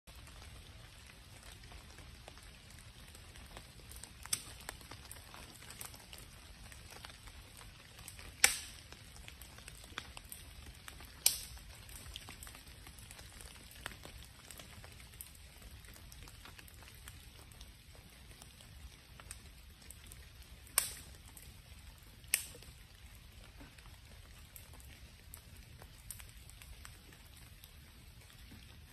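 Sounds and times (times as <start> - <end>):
fire popping: 0.0 - 28.9
campfire crackling: 0.1 - 28.9.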